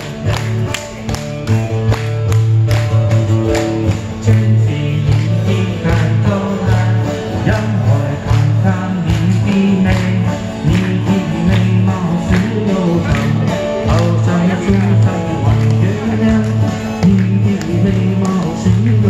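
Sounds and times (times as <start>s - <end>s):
bass line: 0.0s - 19.0s
electric guitar: 0.0s - 19.0s.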